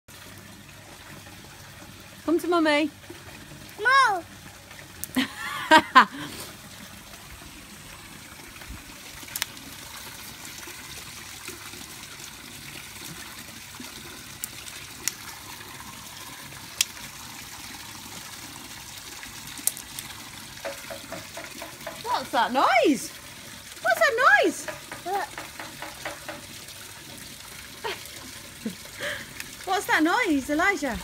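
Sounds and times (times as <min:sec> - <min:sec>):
steady trickling hiss: 0:00.1 - 0:31.0.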